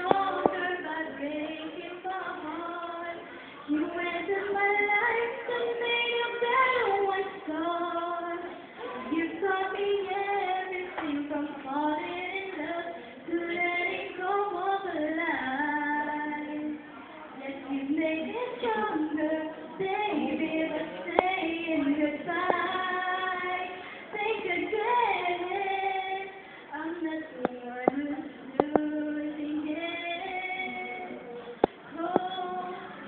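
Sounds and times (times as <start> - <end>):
woman singing slow melody: 0.0 - 16.8, 17.4 - 33.0.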